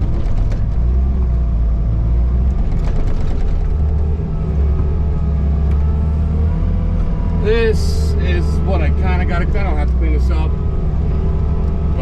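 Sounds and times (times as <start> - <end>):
skid steer engine droning: 0.0 - 12.0.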